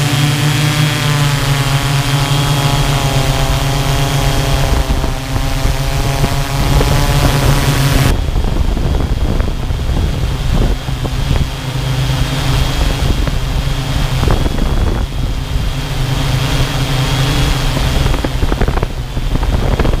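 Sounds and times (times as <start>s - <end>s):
drone propellers humming: 0.0s - 20.0s
wind rumble on microphone: 0.0s - 20.0s.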